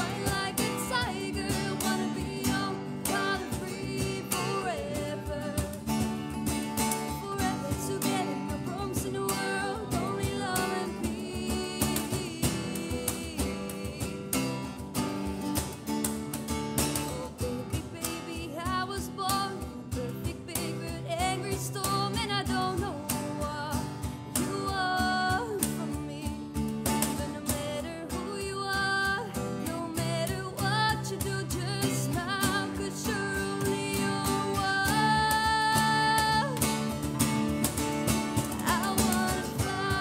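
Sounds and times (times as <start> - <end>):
woman singing: 0.0 - 15.8, 16.4 - 40.0
acoustic bass guitar: 0.0 - 40.0
steady cajon beat: 0.0 - 40.0
strummed acoustic guitar: 0.0 - 40.0.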